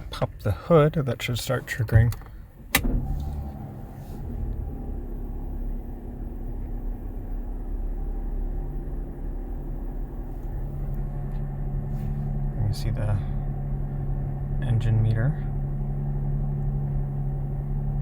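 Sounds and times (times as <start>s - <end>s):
car engine starting and running: 0.0s - 18.0s.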